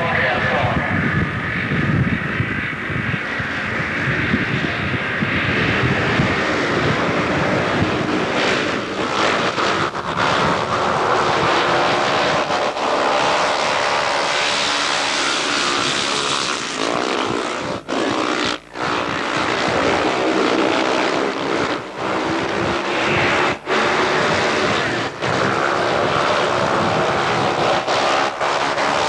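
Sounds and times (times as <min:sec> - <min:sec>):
motorcycle engines racing past: 0:00.0 - 0:29.0.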